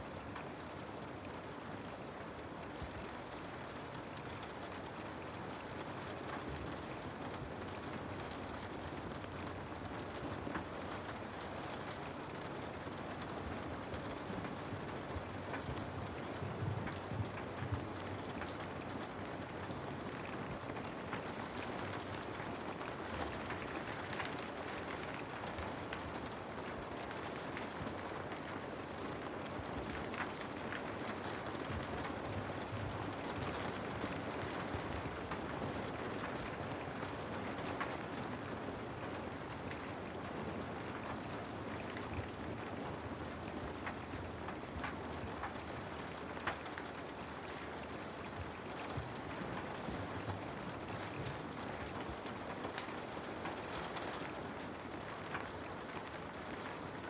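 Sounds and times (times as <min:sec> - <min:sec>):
raindrops ticking on hard surfaces: 0:00.0 - 0:57.0
steady rain falling: 0:00.0 - 0:57.0.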